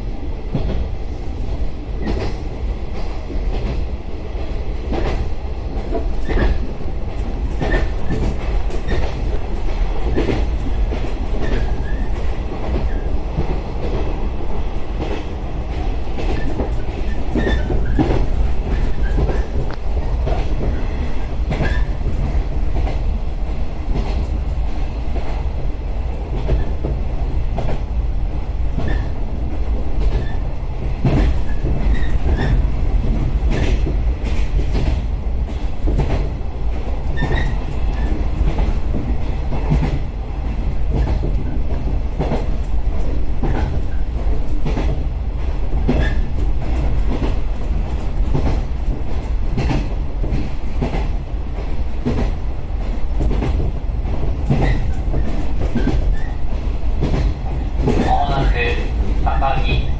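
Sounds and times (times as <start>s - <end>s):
train rumble: 0.0s - 59.9s.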